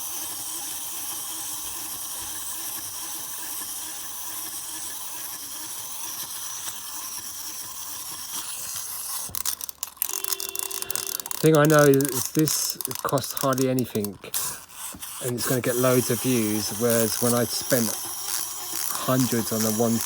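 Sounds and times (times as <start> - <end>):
clockwork toys whirring: 0.0 - 20.0.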